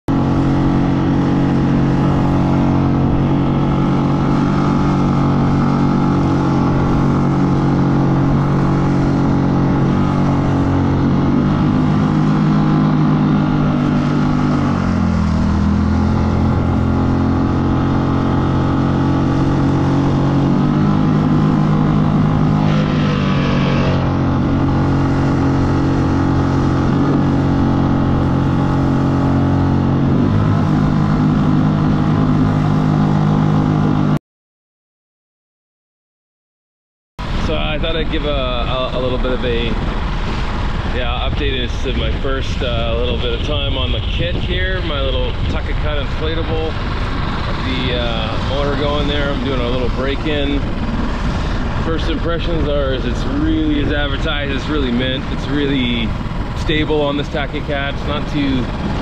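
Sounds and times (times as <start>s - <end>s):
outboard motor running: 0.1s - 34.2s, 37.2s - 59.0s.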